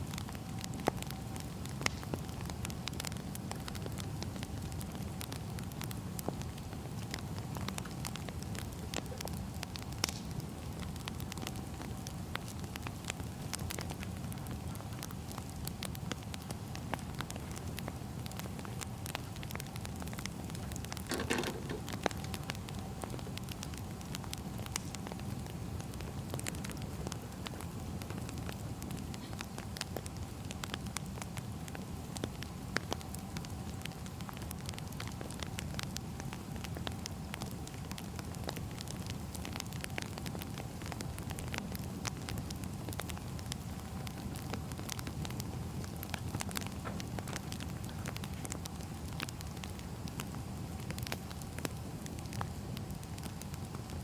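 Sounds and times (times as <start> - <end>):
firewood crackling and popping: 0.0 - 54.0
low rumble of fire: 0.0 - 54.0.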